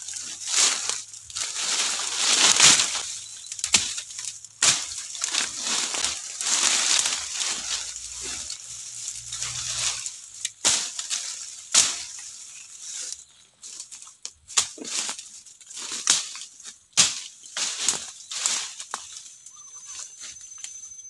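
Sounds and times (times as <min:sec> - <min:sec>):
twigs snapping: 0:00.0 - 0:19.3
footsteps crunching dry leaves: 0:00.0 - 0:20.6
brushing through undergrowth: 0:00.0 - 0:20.9.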